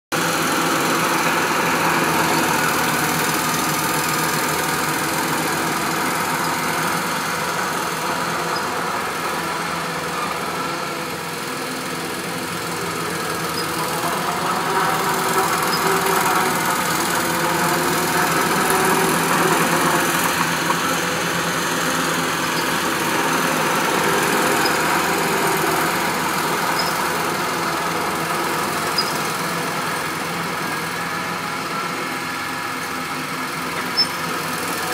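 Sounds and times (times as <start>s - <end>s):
loader diesel engine running: 0.1s - 34.9s.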